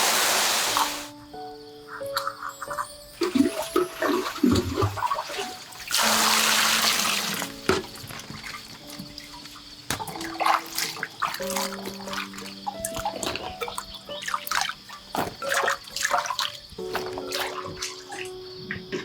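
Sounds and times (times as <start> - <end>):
water pouring: 0.0 - 1.1, 3.2 - 18.4
soft background music: 0.6 - 19.0
water splashing: 3.2 - 18.5.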